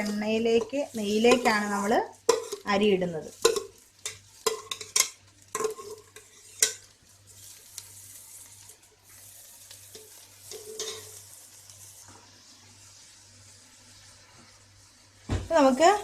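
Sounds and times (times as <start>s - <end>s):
rice sizzling in oil: 0.0s - 16.0s.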